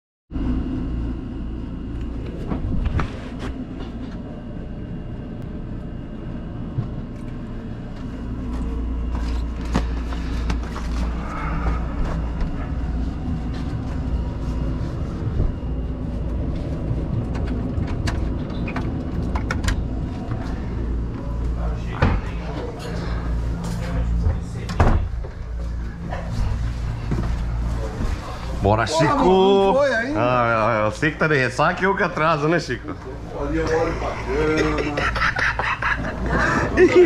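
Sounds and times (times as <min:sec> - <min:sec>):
boat machinery rumble: 0:00.4 - 0:37.0.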